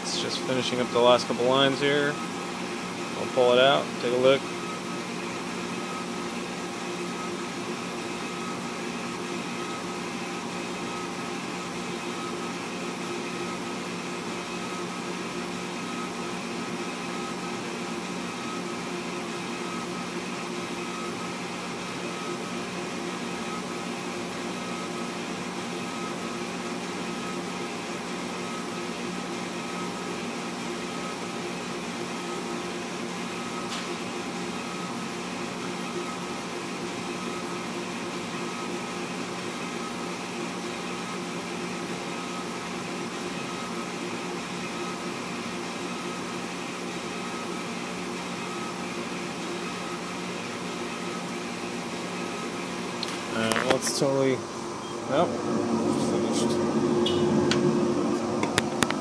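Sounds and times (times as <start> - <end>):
laser engraver whirring hum: 0.0 - 59.0.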